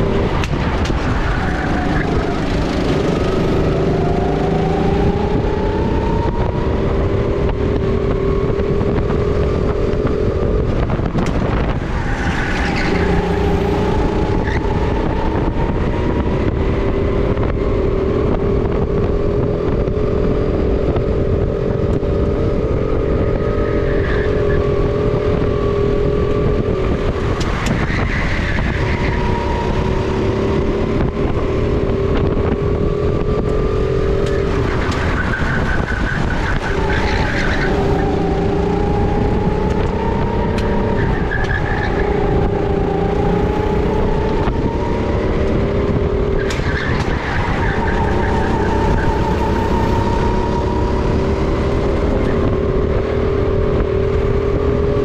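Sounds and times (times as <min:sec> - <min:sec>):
kart engine at high revs: 0:00.0 - 0:55.0
wind noise on microphone: 0:00.0 - 0:55.0.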